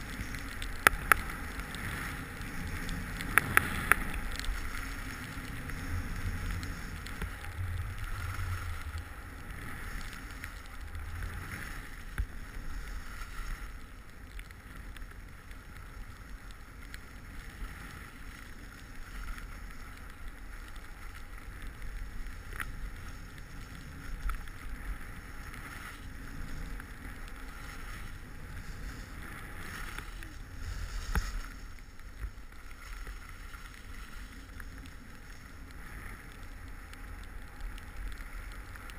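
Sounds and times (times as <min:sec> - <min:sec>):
skis scraping over snow: 0:00.0 - 0:38.9
wind rumbling on microphone: 0:00.0 - 0:38.9.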